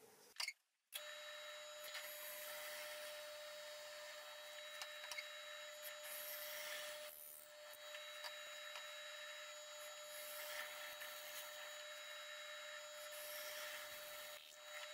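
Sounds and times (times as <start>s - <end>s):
drill press whine: 1.0s - 14.9s.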